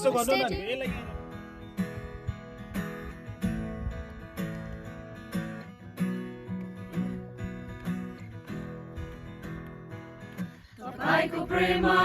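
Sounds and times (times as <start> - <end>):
acoustic guitar strumming: 1.2 - 12.0.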